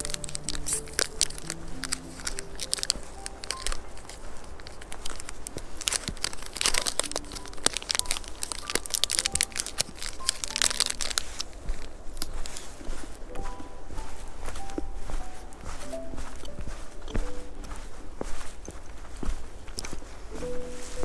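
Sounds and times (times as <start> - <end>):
soft piano music: 0.0 - 18.9, 19.6 - 21.0
crinkling and crackling: 0.0 - 21.0.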